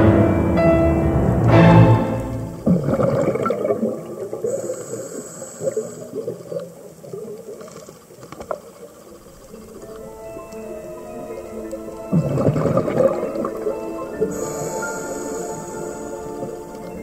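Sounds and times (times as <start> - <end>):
underwater bubbling and gurgling: 2.6 - 17.0.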